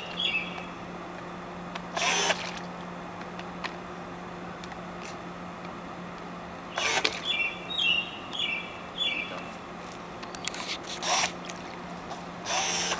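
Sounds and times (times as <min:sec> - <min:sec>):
boat motor churning water: 0:00.0 - 0:12.9
faint steady hum: 0:00.0 - 0:12.9.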